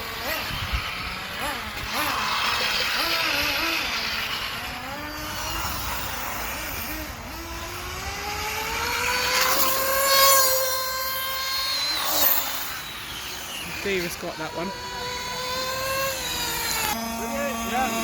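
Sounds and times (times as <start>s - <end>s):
rc car motors whining: 0.0s - 18.0s.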